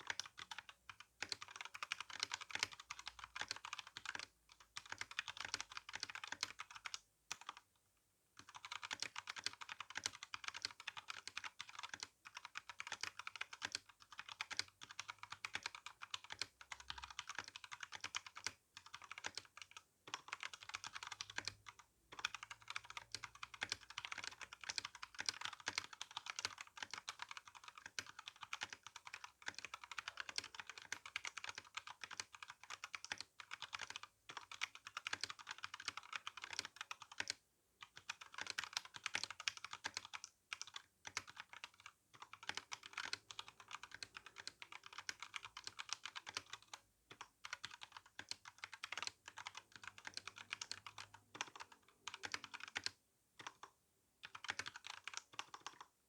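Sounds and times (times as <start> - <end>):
mechanical keyboard typing: 0.0 - 7.6, 8.4 - 55.9.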